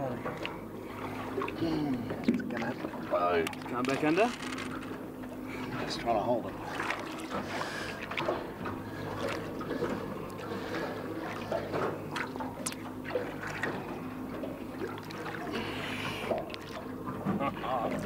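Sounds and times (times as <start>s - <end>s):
steady low hum: 0.0s - 18.0s
water splashing against boat: 0.0s - 18.0s.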